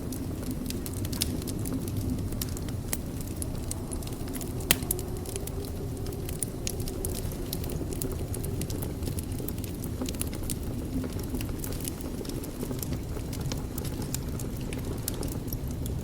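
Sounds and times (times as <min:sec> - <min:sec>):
low rush of flames: 0:00.0 - 0:16.0
wood fire crackling and popping: 0:00.0 - 0:16.0.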